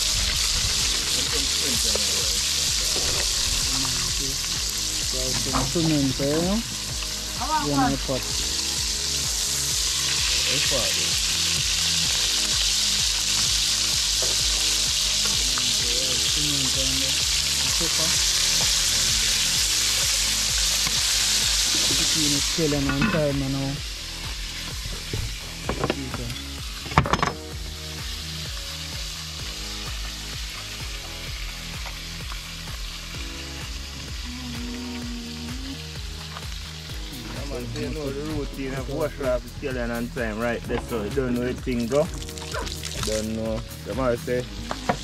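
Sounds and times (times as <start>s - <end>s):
fish sizzling in hot oil: 0.0s - 45.0s.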